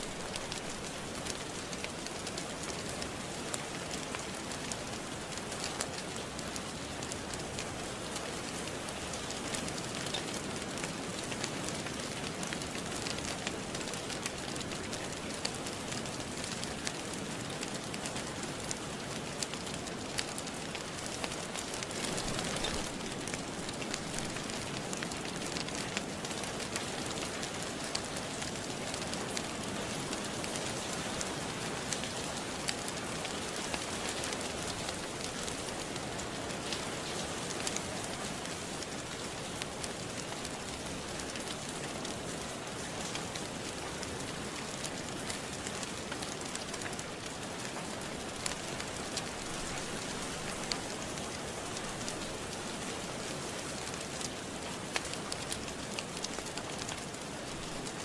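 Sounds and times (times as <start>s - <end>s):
fireplace crackling: 0.0s - 58.0s
steady rain falling: 0.0s - 58.0s.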